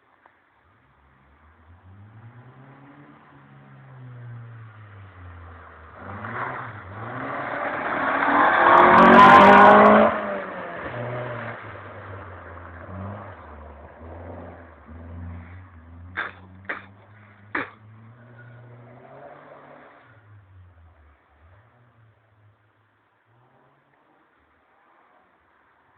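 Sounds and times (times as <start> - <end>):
car engine revving: 0.8 - 25.6.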